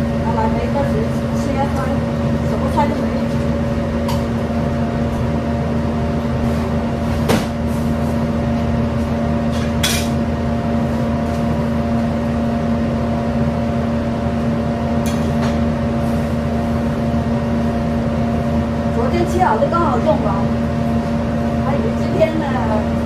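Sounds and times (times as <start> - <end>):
kitchen machinery humming: 0.0 - 23.0.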